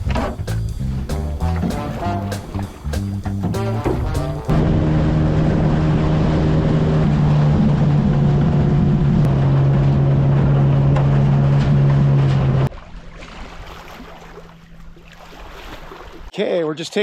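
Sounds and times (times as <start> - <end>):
outboard motor humming: 0.0 - 16.3.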